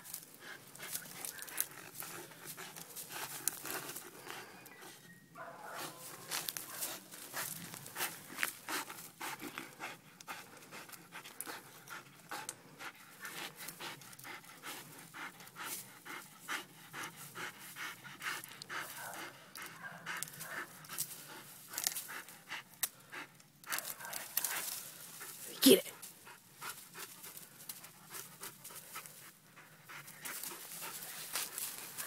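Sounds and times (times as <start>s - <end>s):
dog panting hard: 0.2s - 32.0s.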